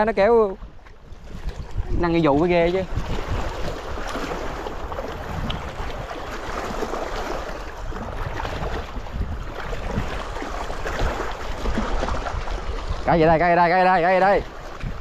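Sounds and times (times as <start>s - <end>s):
wind buffeting microphone: 0.0s - 15.0s
water washing against rocky shore: 1.1s - 15.0s.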